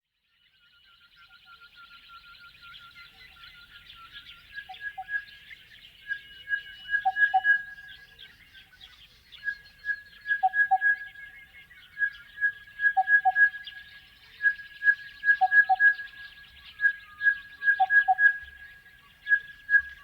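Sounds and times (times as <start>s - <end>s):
bird singing ringing notes: 0.5s - 20.0s.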